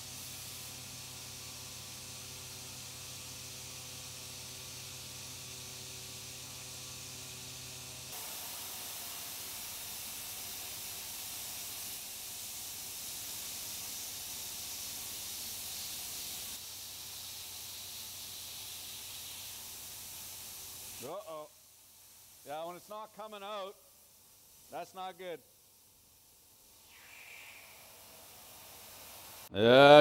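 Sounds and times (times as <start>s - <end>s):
air-blast nozzle hissing: 0.0s - 29.5s.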